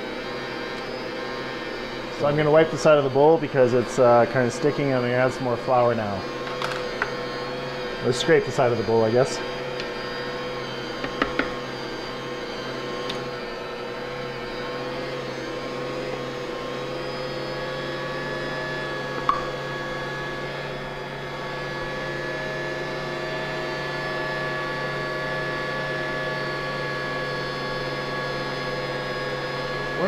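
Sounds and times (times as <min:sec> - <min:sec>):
mixer motor whining: 0:00.0 - 0:30.0.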